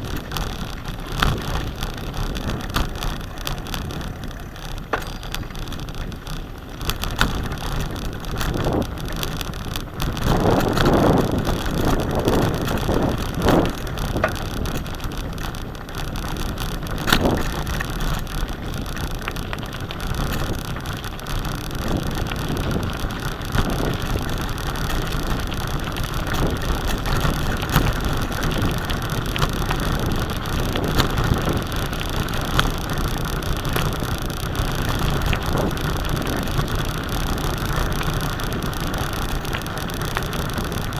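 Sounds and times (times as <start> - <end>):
bicycle rattling over bumps: 0.0 - 40.9
wind rumble on microphone: 0.0 - 40.9.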